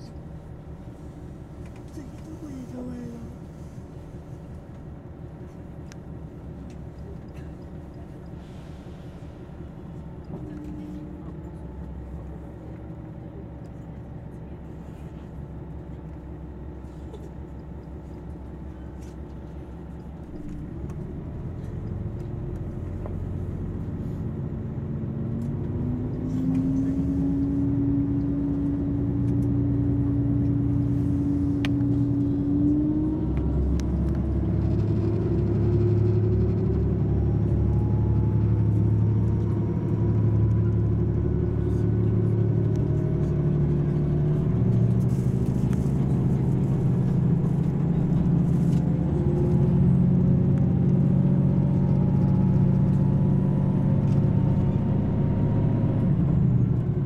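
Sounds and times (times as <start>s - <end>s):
train engine drone rising: 0.3s - 57.0s.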